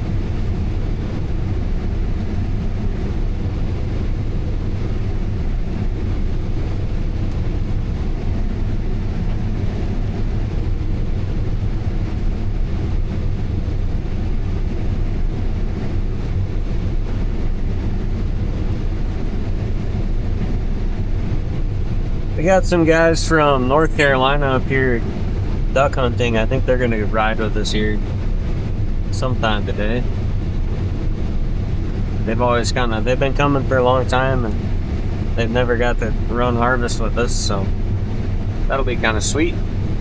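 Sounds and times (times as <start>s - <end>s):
combine harvester droning: 0.0s - 40.0s.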